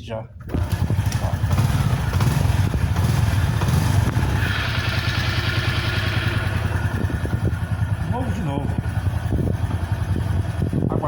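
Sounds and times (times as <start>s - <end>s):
motorcycle engine running: 0.4s - 11.0s.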